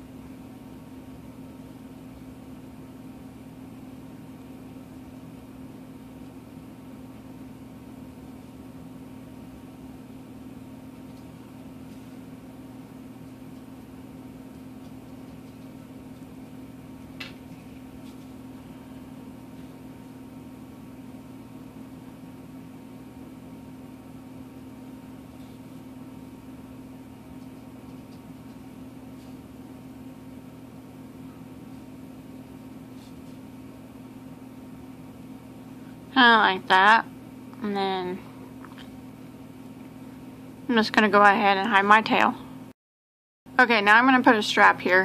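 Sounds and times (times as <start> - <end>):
low hum with faint hiss: 0.0 - 42.7, 43.5 - 45.0.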